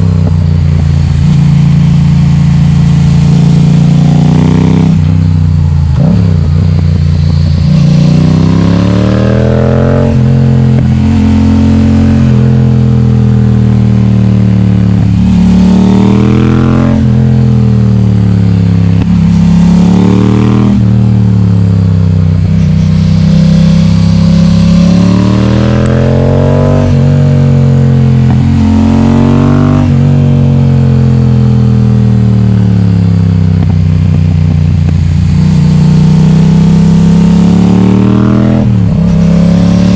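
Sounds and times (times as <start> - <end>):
motorcycle engine revving loudly: 0.0 - 39.9.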